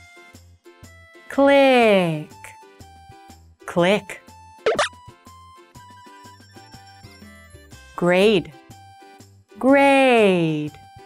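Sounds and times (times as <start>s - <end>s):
light children's music: 0.0s - 11.0s.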